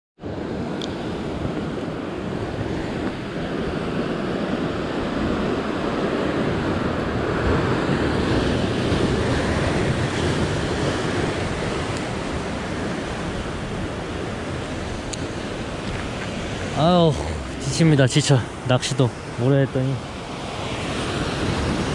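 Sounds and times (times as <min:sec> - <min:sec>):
sea surf breaking over rocks: 0:00.4 - 0:21.9.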